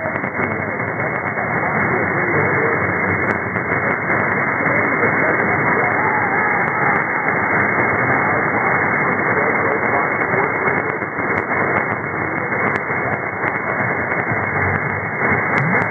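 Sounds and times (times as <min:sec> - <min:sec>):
faint radio speech: 0:00.0 - 0:15.9
radio hiss and static: 0:00.0 - 0:15.9.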